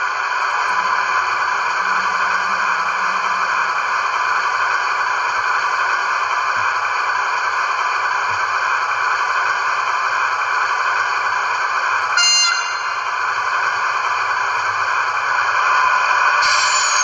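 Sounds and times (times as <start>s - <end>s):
diesel engine sound from small speaker: 0.0s - 17.0s.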